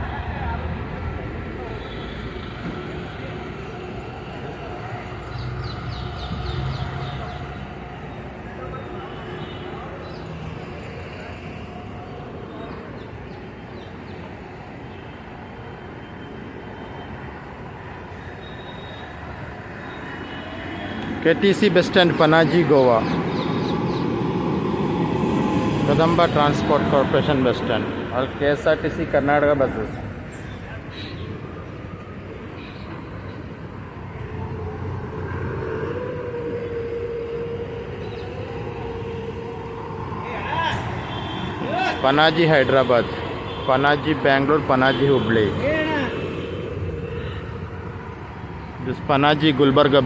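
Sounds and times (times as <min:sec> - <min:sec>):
bus station background noise: 0:00.0 - 0:50.0.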